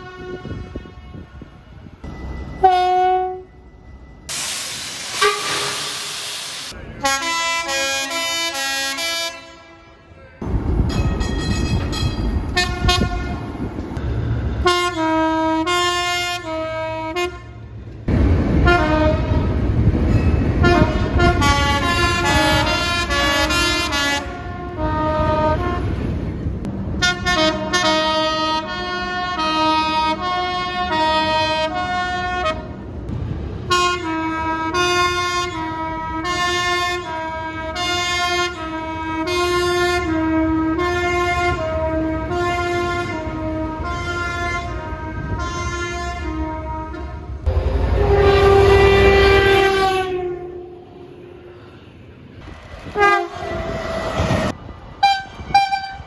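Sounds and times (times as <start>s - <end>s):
multi-tone train horn blasts: 0.0s - 2.0s, 2.6s - 3.6s, 4.3s - 10.4s, 11.6s - 13.6s, 14.4s - 17.8s, 18.5s - 19.8s, 20.5s - 26.3s, 27.0s - 32.9s, 33.6s - 52.0s, 52.9s - 56.0s
moving train rumble: 0.0s - 56.0s.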